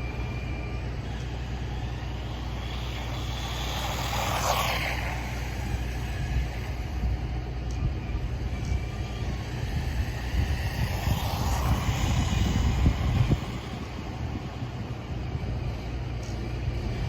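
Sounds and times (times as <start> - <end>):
toy car electric motor whine: 0.0 - 15.3.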